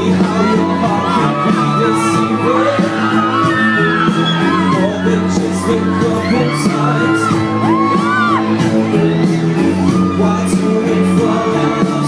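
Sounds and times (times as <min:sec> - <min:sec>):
crowd shouting and whooping: 0:00.0 - 0:12.0
live pop music through speakers: 0:00.0 - 0:12.0
person singing: 0:00.0 - 0:12.0.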